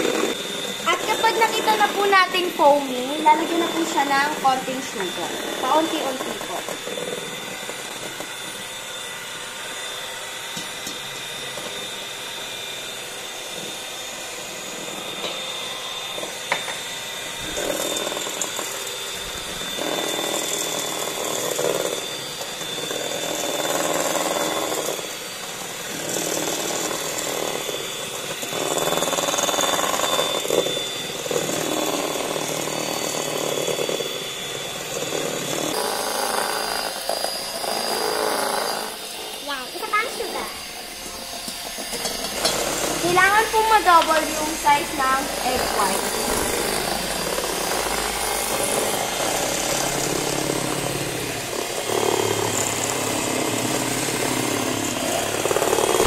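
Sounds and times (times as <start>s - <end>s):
beaters whisking in metal bowl: 0.0s - 56.0s
electric hand mixer whining: 0.0s - 56.0s.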